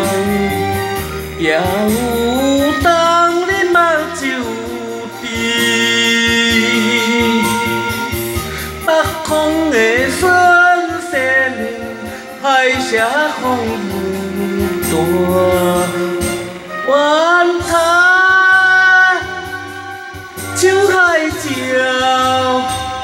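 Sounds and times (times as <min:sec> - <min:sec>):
instrumental karaoke backing track: 0:00.0 - 0:23.0.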